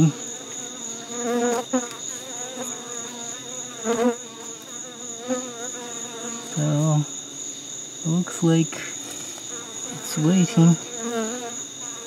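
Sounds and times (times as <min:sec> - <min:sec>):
crickets chirring: 0:00.0 - 0:12.0
honey bees buzzing: 0:00.0 - 0:12.0.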